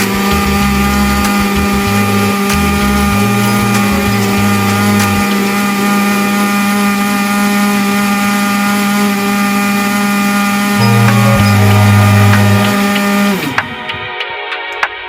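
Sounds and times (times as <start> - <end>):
blender motor running: 0.0 - 13.8.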